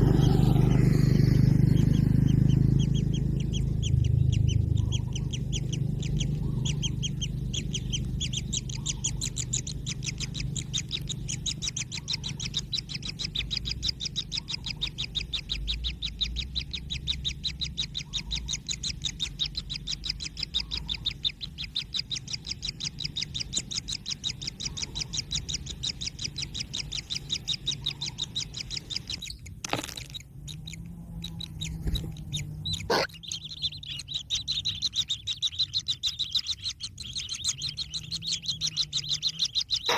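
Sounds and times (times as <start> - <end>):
nestlings begging calls: 0.0 - 39.9.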